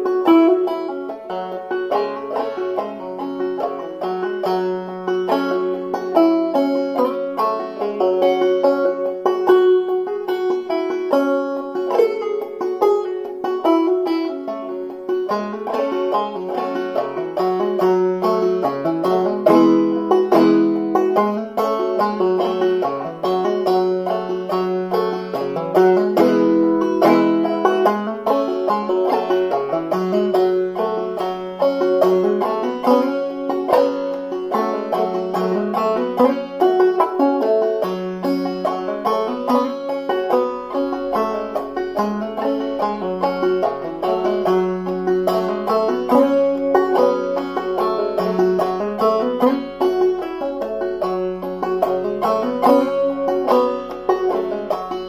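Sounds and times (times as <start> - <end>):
clawhammer banjo playing: 0.0 - 55.0.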